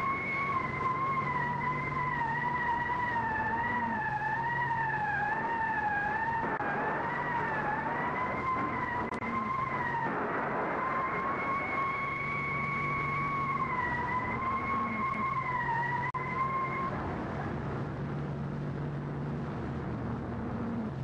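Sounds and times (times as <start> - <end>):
siren wavering high note: 0.0 - 17.1.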